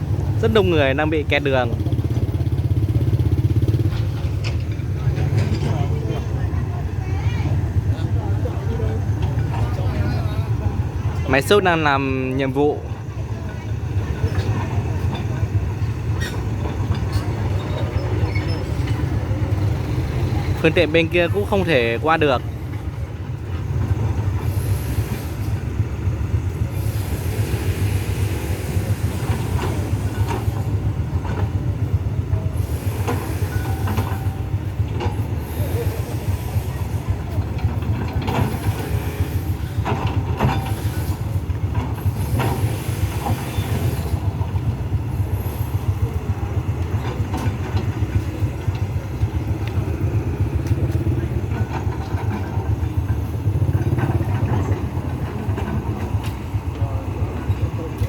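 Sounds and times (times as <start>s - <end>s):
engines rumbling: 0.0s - 58.0s.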